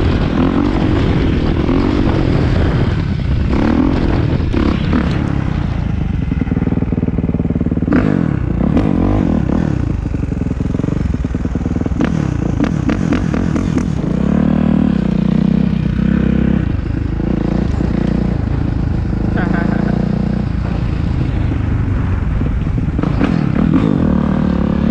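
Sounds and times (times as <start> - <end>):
dirt bike engine revving: 0.0 - 20.9, 23.0 - 24.9.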